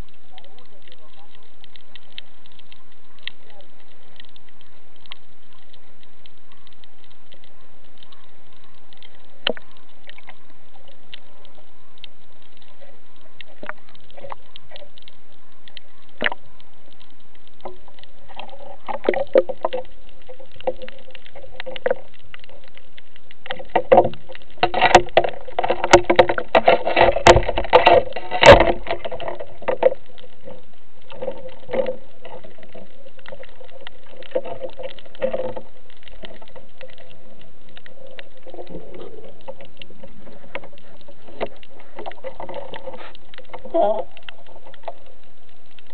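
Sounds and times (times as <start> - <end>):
underwater clicks: 0.0 - 45.9.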